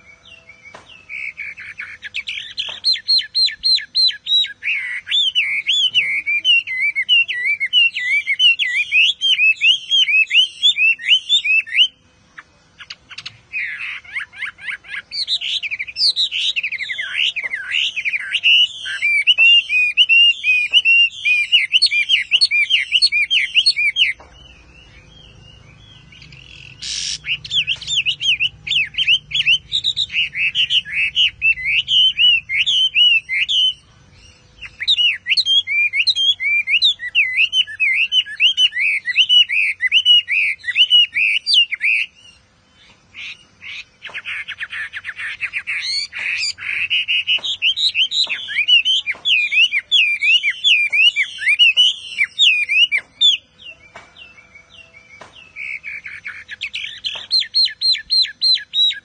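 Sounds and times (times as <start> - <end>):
bird singing whistled phrases: 0.0 - 12.0, 12.8 - 42.5, 43.2 - 59.0.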